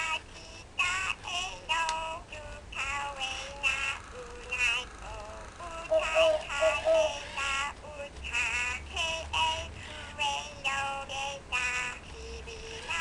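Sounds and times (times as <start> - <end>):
toy singing in electronic voice: 0.0 - 13.0.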